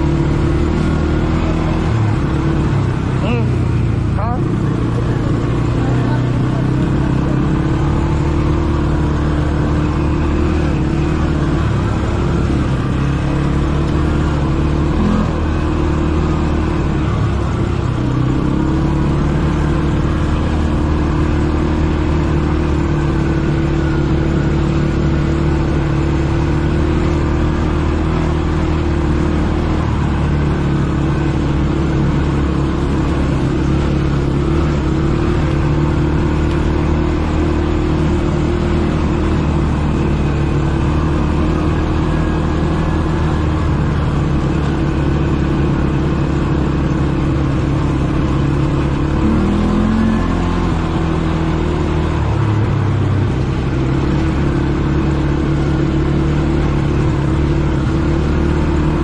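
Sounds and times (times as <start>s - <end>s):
atv engine drone: 0.0s - 59.0s.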